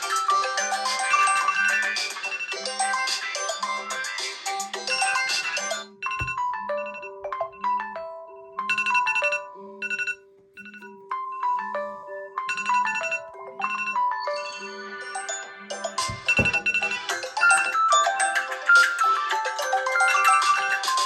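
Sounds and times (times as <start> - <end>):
electronic phone ringtone: 0.0 - 21.0.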